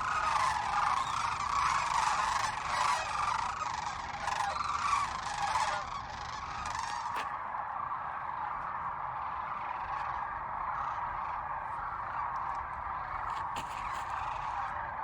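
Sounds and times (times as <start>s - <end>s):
flock of cranes calling: 0.0s - 15.0s.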